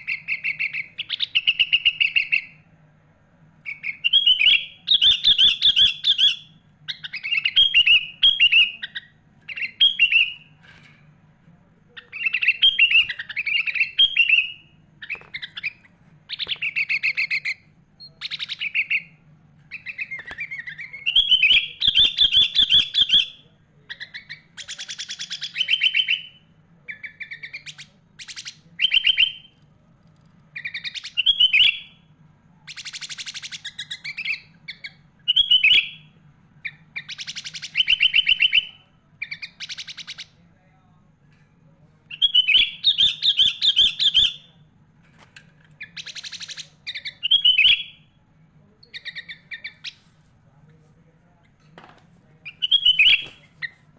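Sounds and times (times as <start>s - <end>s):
bulbul singing chirpy trills: 0.0s - 2.7s, 3.6s - 10.6s, 11.9s - 29.6s, 30.5s - 40.4s, 42.1s - 44.6s, 45.8s - 48.2s, 48.8s - 50.0s, 52.4s - 53.8s.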